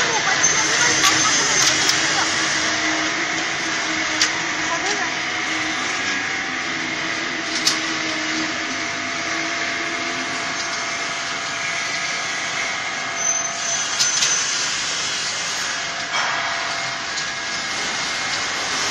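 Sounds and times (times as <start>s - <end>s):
frying machine hum and hiss: 0.0s - 18.9s.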